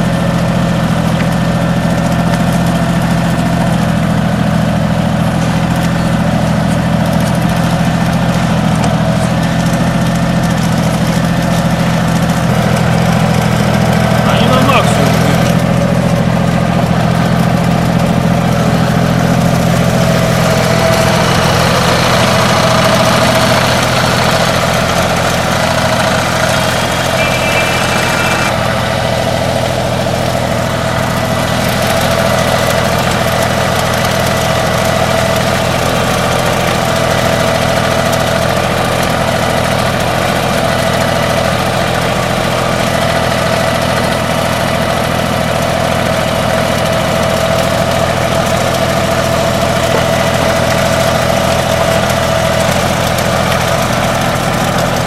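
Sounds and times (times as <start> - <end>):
backhoe operating: 0.0 - 55.0
tractor diesel engine running: 0.0 - 55.0.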